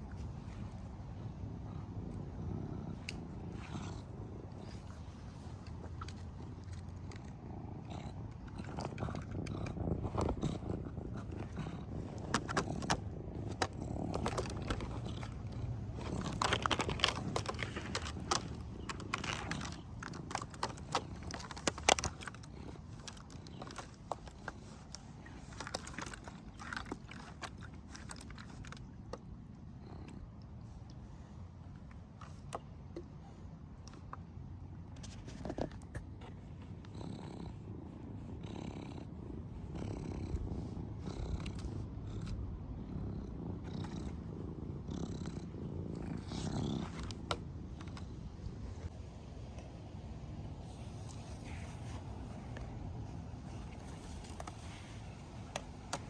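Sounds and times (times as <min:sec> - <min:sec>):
rustling: 0:00.0 - 0:56.0.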